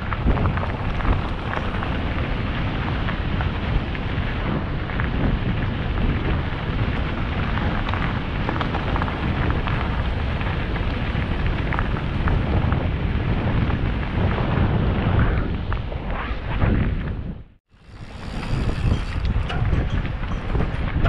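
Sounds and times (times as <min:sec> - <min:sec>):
bike rattling: 0:00.0 - 0:14.8, 0:17.7 - 0:21.0
wind buffeting microphone: 0:00.0 - 0:21.0.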